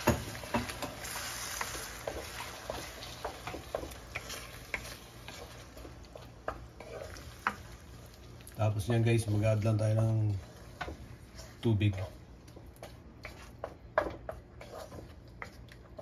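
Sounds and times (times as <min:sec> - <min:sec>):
faint sizzle: 0:00.0 - 0:16.0
spatula scraping a frying pan: 0:00.1 - 0:08.0, 0:09.8 - 0:16.0.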